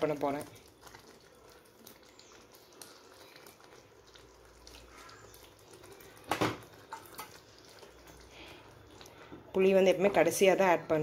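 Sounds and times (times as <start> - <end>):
liquid splashing into a pan: 0.0 - 9.6.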